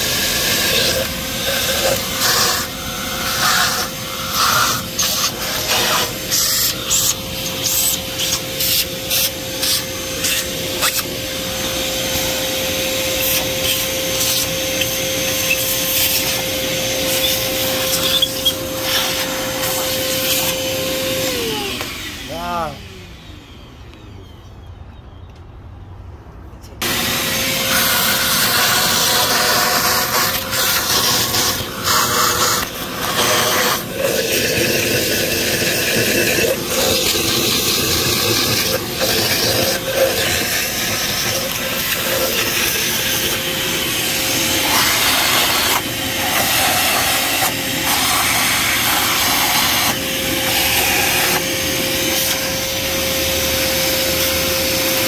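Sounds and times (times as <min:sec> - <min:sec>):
motor-driven tool humming: 0:00.0 - 0:24.0, 0:26.8 - 0:55.0.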